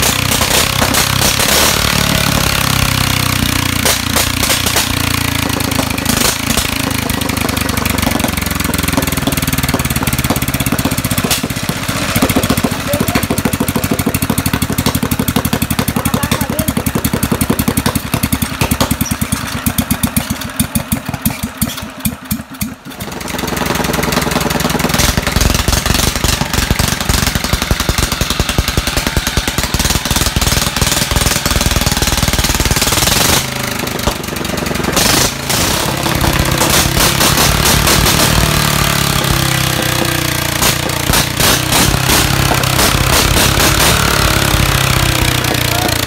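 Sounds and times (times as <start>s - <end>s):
single-cylinder engine running: 0.0s - 46.0s.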